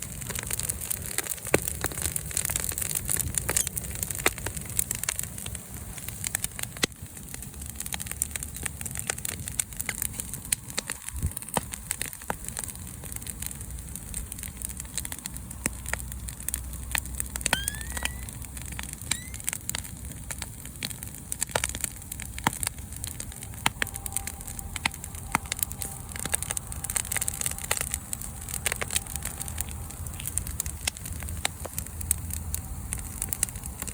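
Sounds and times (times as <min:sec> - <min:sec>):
wood bonfire crackling and popping: 0:00.0 - 0:33.9.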